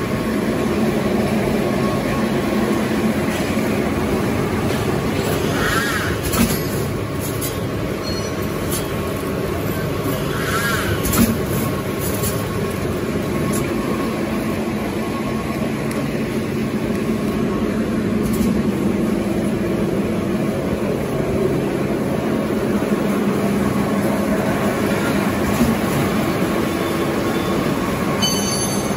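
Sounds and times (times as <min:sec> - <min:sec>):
production line machinery din: 0:00.0 - 0:28.9.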